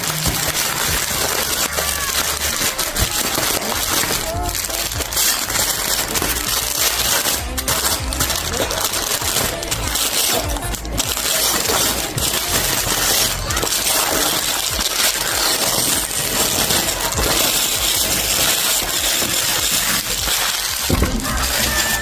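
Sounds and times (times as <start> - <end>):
packaging crackling and crinkling: 0.0 - 22.0.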